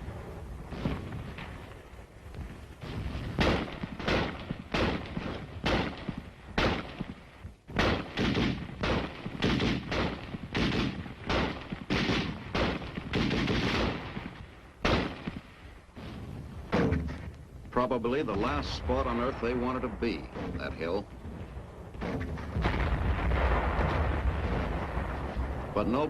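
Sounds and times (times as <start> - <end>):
gunshots with short echo: 2.8 - 17.3, 18.3 - 21.0, 21.9 - 26.0.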